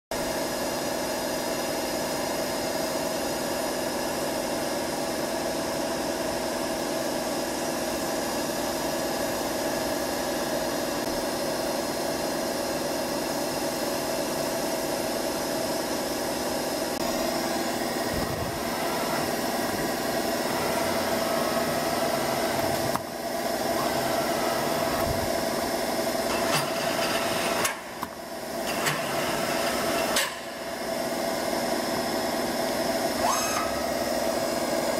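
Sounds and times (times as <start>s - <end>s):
milling machine running: 0.4s - 34.9s.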